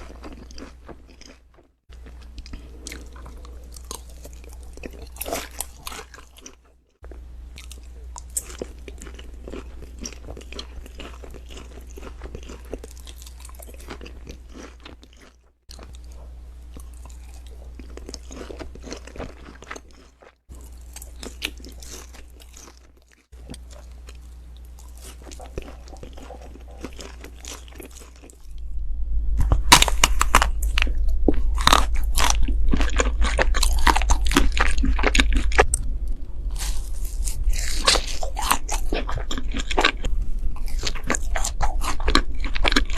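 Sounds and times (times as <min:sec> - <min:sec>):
chewing and crunching food: 0:00.0 - 0:28.7, 0:29.4 - 0:42.9
steady low hum: 0:01.9 - 0:14.5, 0:15.7 - 0:19.9, 0:20.5 - 0:42.9.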